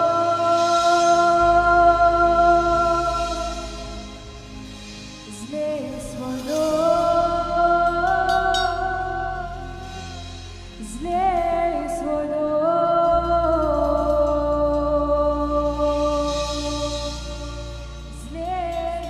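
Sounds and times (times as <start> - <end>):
low bass: 0.0 - 19.0.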